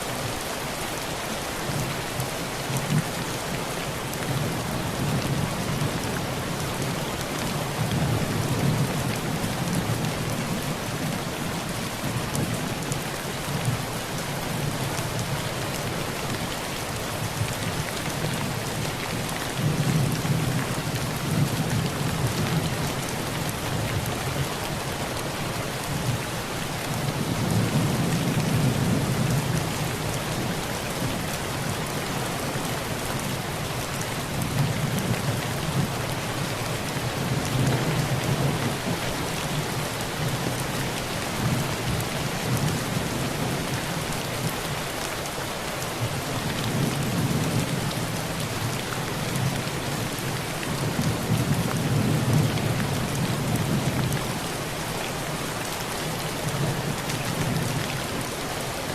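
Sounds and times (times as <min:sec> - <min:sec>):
heavy rain on a tin roof: 0:00.0 - 0:58.9.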